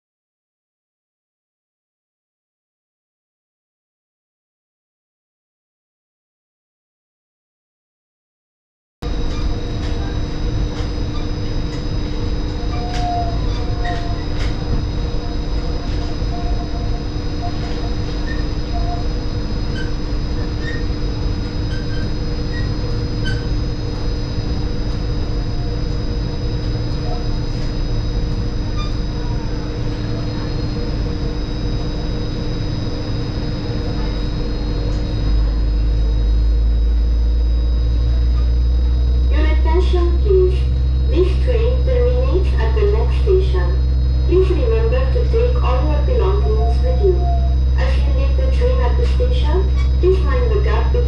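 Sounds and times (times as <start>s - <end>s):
monorail running low rumble: 9.0s - 51.0s.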